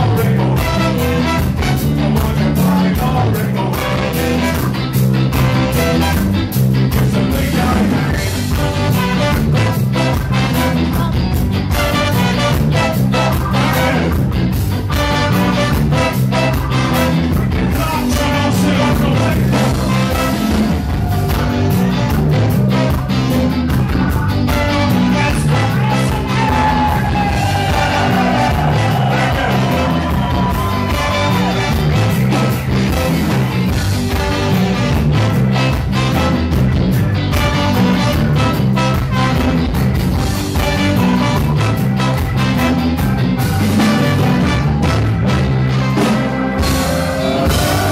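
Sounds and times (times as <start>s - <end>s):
drum kit beat: 0.0s - 47.9s
ska band horn section: 0.0s - 47.9s.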